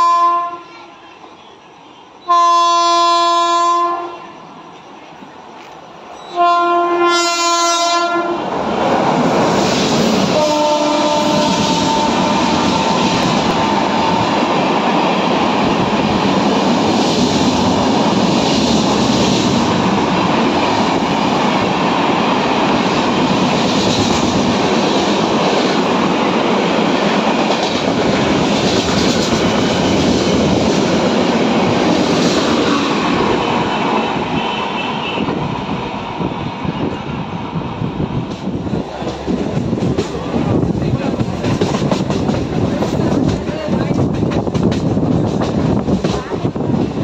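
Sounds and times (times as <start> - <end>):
train coaches passing at speed: 0.0 - 47.0.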